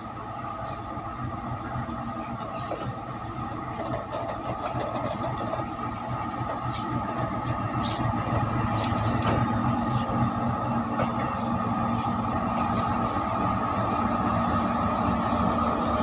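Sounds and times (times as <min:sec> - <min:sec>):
locomotive engine hum: 0:00.0 - 0:16.0.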